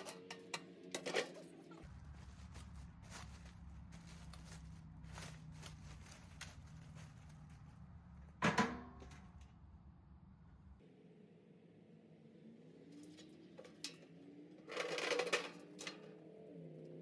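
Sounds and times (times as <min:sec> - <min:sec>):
low hum: 0:00.0 - 0:14.6.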